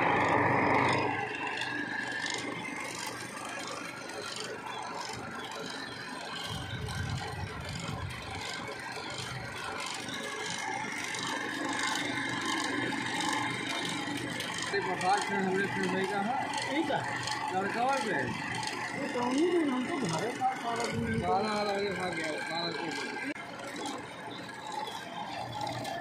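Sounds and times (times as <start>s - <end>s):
cotton candy machine whirring: 0.0s - 26.0s.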